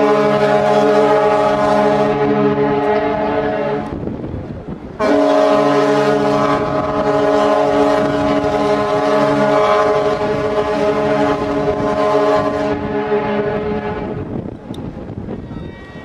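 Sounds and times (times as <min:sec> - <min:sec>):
ship's horn blast: 0:00.0 - 0:04.2, 0:05.0 - 0:14.3.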